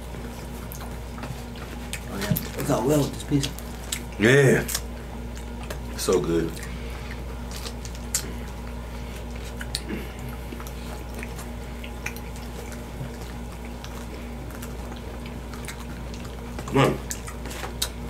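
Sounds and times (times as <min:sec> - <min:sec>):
people chewing: 0:00.0 - 0:18.0
steady low hum: 0:00.0 - 0:18.0.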